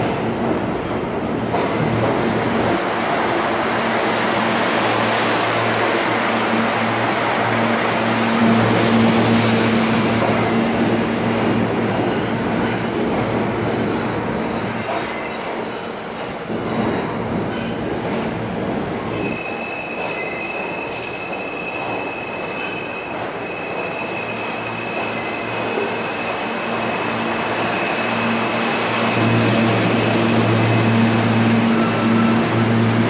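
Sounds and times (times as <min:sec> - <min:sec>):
subway cars rumbling: 0:00.0 - 0:33.0
subway wheels squealing: 0:04.1 - 0:33.0.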